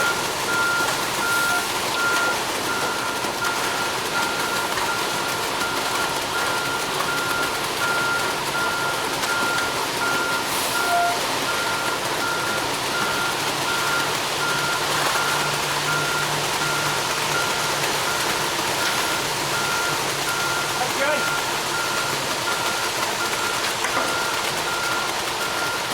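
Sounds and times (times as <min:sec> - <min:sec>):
reversing alarm beeping: 0:00.0 - 0:25.9
truck engine running: 0:00.0 - 0:25.9.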